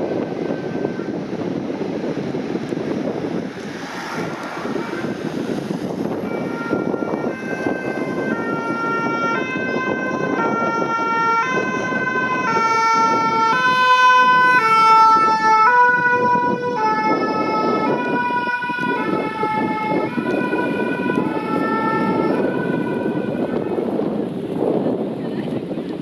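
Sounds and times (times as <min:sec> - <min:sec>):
two-tone ambulance siren: 0:00.0 - 0:01.8, 0:04.0 - 0:24.2
ambulance engine: 0:00.0 - 0:25.0
traffic noise: 0:00.0 - 0:26.0.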